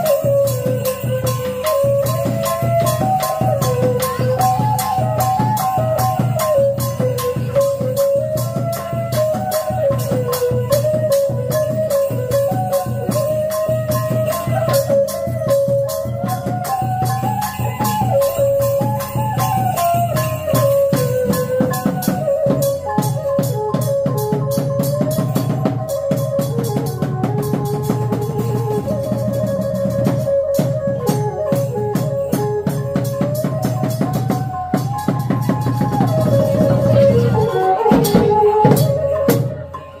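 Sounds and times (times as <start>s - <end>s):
wavering lead melody: 0.0s - 40.0s.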